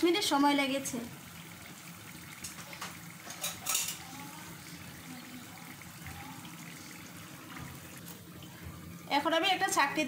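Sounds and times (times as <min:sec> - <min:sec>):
deep-frying sizzling and bubbling: 0:00.0 - 0:10.0.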